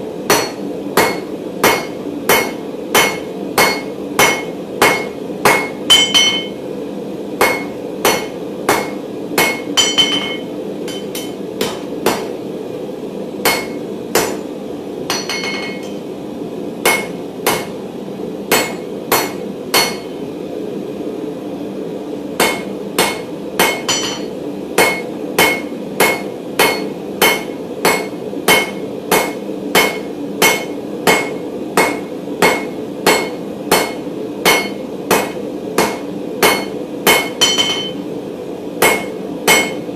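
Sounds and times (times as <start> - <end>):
hammer striking steel on anvil: 0.3 - 6.6, 7.4 - 12.3, 13.4 - 14.5, 15.1 - 16.0, 16.8 - 17.7, 18.5 - 20.2, 22.4 - 38.0, 38.8 - 39.9.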